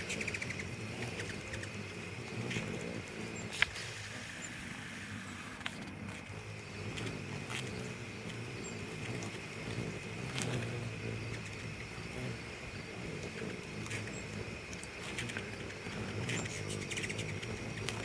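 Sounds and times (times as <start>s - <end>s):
hummingbird chips: 0.0s - 18.0s
hummingbird wings humming: 0.0s - 18.0s.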